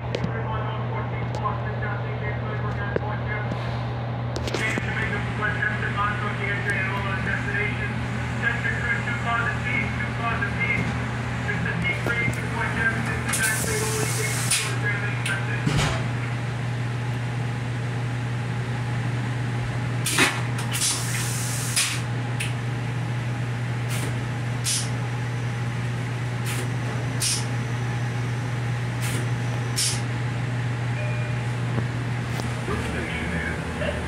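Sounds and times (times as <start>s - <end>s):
train coach hum and rumble: 0.0s - 34.0s.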